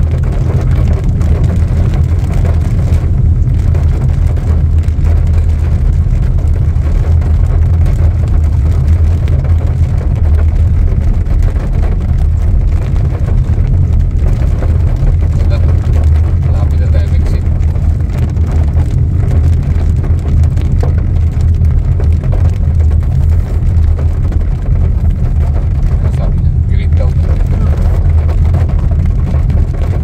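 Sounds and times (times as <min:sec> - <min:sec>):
car driving in heavy rain: 0:00.0 - 0:30.0.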